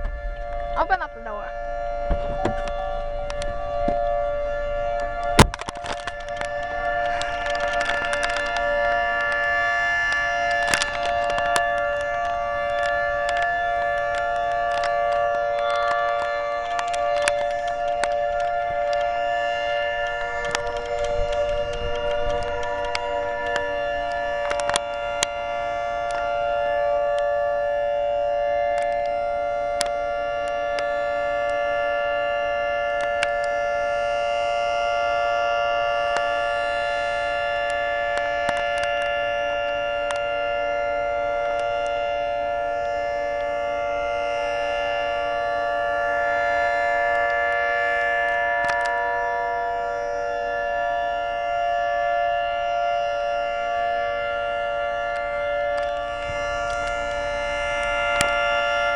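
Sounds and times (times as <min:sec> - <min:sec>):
warning siren chord: 0:00.0 - 0:58.9.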